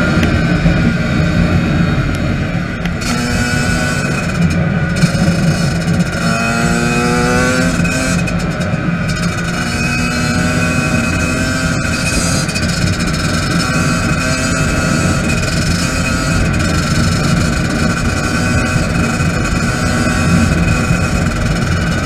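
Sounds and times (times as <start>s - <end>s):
dirt bike engine at high revs: 0.0s - 22.0s
wind rush on microphone: 0.0s - 22.0s.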